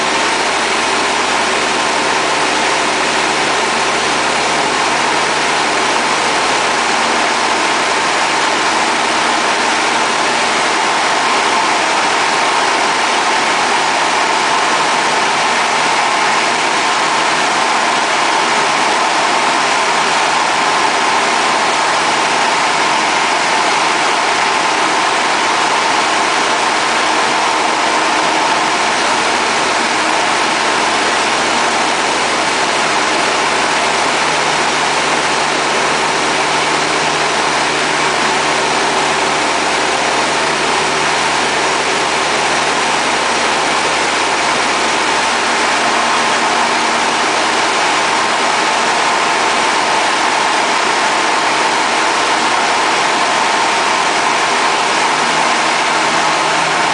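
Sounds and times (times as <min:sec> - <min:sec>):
aircraft engine and propeller: 0:00.0 - 0:56.9.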